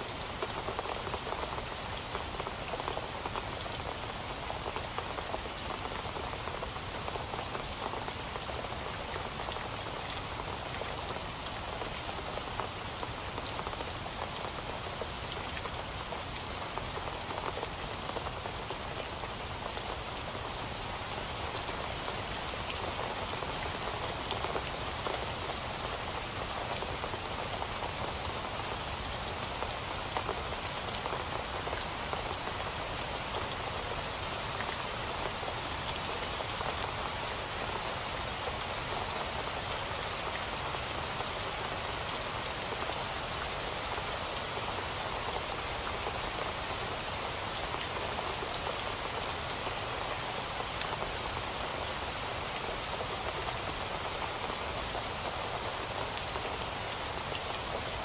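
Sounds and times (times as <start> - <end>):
steady rain on a surface: 0.0 - 58.0.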